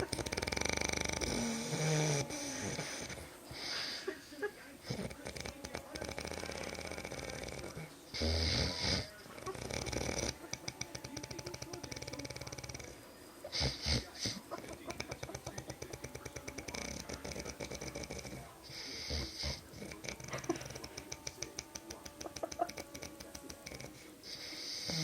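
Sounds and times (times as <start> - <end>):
man snoring heavily: 0.0 - 4.1, 4.9 - 14.4, 15.2 - 25.0
harsh loud breath: 0.0 - 14.5, 16.0 - 25.0.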